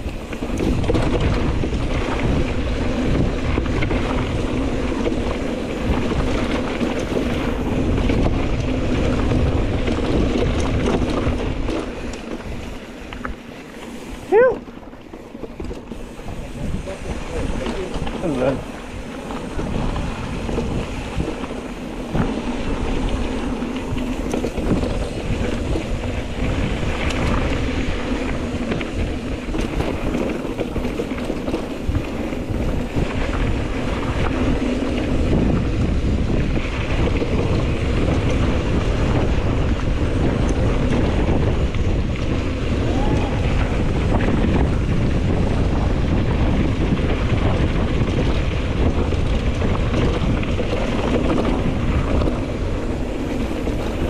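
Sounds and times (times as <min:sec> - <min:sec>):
small knocks from bike: 0:00.0 - 0:16.2, 0:17.6 - 0:54.0
tyres rolling over dirt trail: 0:00.0 - 0:54.0
wind buffeting microphone: 0:00.0 - 0:54.0.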